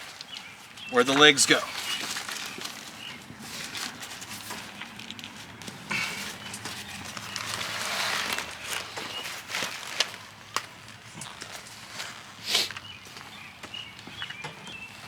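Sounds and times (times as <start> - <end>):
rustling and handling noise: 0.0 - 15.0.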